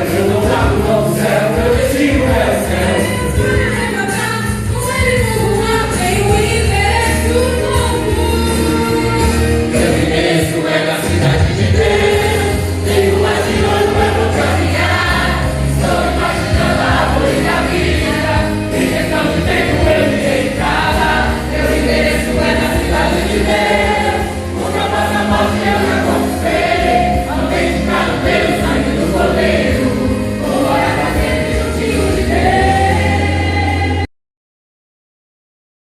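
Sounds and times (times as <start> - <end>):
choir singing with band: 0.0 - 34.1.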